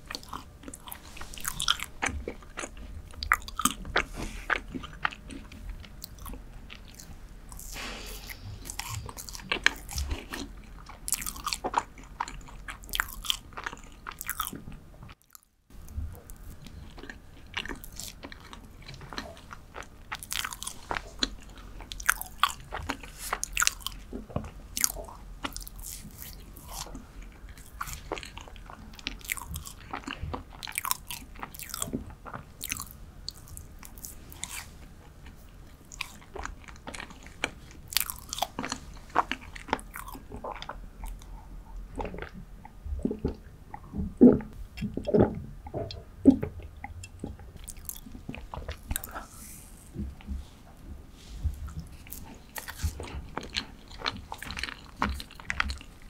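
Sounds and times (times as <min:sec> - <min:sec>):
wet chewing clicks and smacks: 0:00.0 - 0:50.9, 0:51.5 - 0:56.0.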